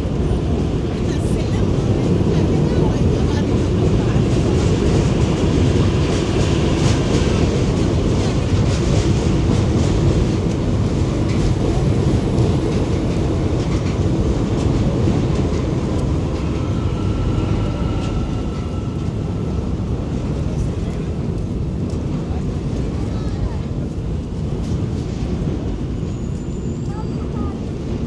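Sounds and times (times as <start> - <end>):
metro train rumbling: 0.0 - 28.0
rail clicks: 0.1 - 23.1.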